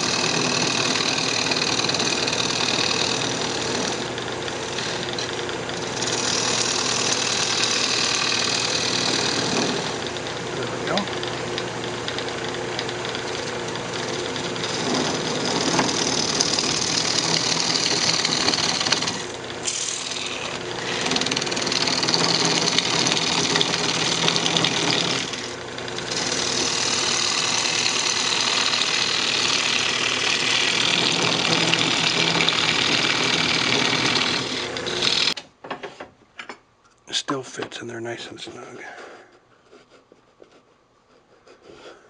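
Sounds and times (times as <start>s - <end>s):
gouge cutting spinning wood: 0.0s - 35.4s
wood lathe humming: 0.0s - 35.4s.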